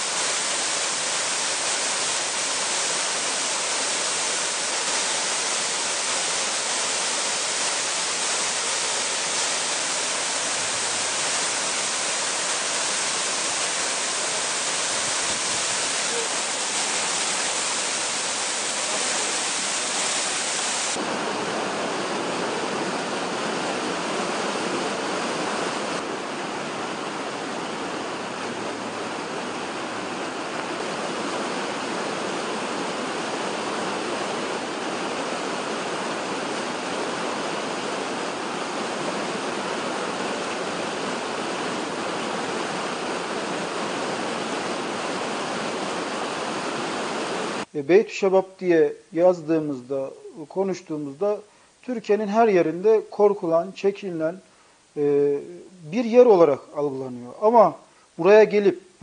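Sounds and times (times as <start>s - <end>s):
rushing water: 0.0s - 47.7s.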